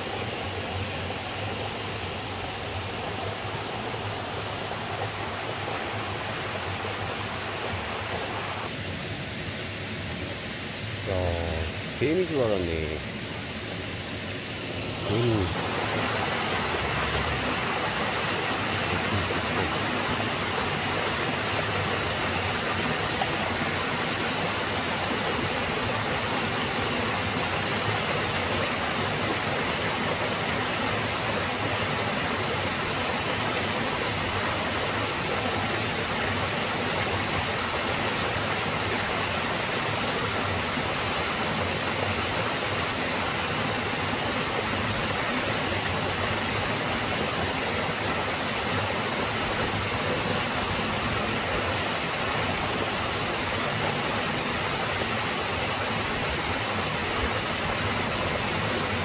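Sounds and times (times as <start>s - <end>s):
waterfall rushing: 0.0s - 8.9s, 9.7s - 59.0s.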